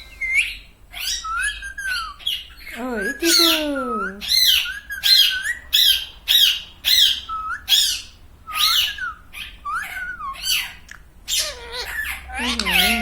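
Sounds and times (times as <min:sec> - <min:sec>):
parrot squawking: 0:00.2 - 0:13.0.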